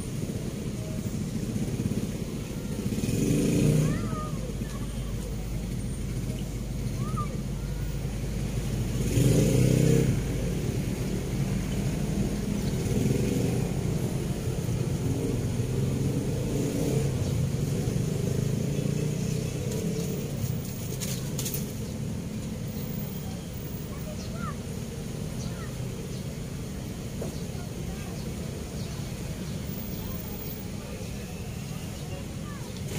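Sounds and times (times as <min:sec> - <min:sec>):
traffic rumble on bridge overhead: 0:00.0 - 0:32.9.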